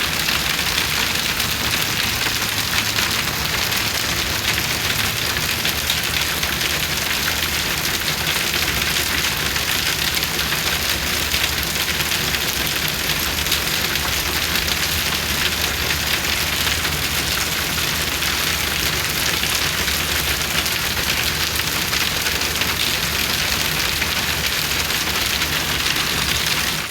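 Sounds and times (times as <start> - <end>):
heavy rain on hard surfaces: 0.0 - 26.9.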